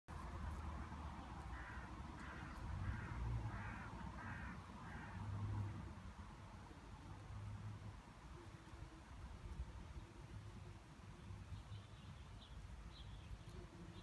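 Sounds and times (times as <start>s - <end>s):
bumblebees buzzing: 0.2s - 14.0s.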